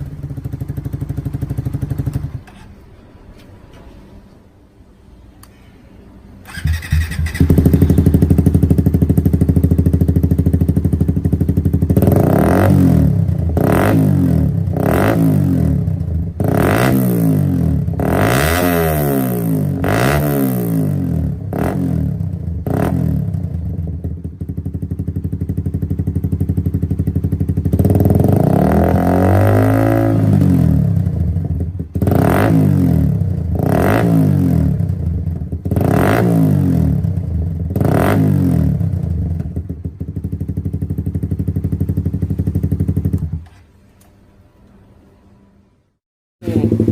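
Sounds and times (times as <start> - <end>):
motorcycle engine idling and revving: 0.0 - 3.0, 6.4 - 43.6, 46.4 - 46.9.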